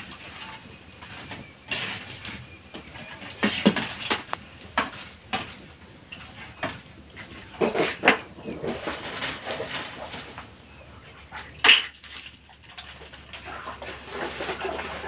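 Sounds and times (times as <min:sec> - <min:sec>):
skimmer scraping a wok: 0:00.0 - 0:10.5, 0:11.2 - 0:15.0.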